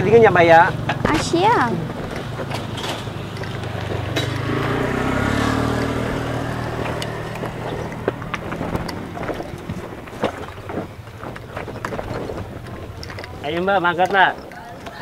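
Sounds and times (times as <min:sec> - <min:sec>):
motorcycle engine revving: 0:00.0 - 0:14.8.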